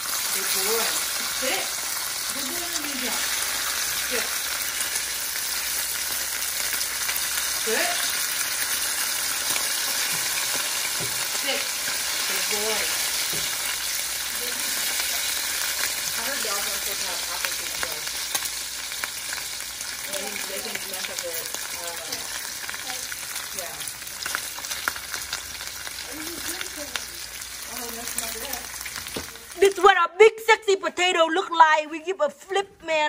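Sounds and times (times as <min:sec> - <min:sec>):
bacon sizzling in a skillet: 0:00.0 - 0:29.9.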